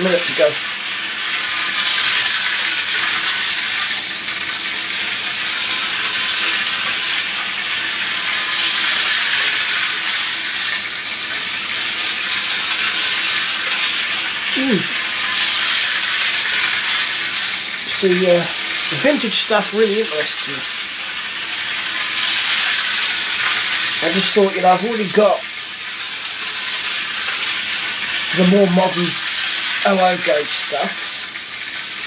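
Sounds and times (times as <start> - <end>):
model train motor whirr: 0.0 - 28.3.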